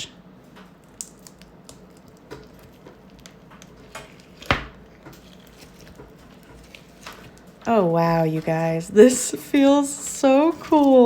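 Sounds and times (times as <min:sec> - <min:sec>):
hands squishing crunchy slime: 0:00.8 - 0:11.0.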